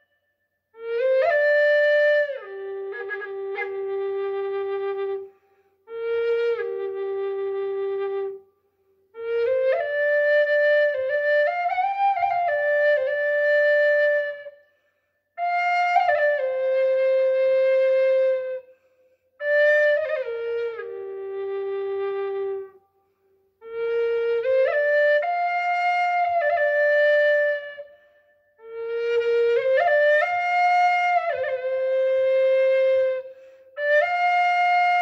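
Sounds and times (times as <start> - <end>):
solo wind instrument melody: 0.7 - 8.5, 9.1 - 14.6, 15.4 - 18.7, 19.4 - 22.9, 23.6 - 35.0.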